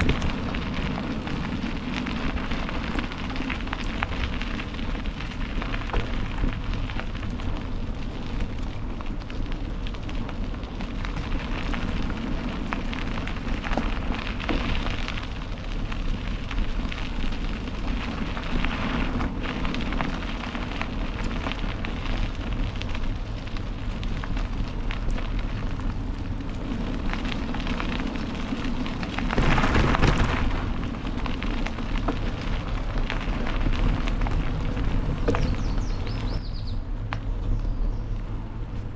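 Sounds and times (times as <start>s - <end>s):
bike tyres rolling over gravel: 0.0s - 38.9s.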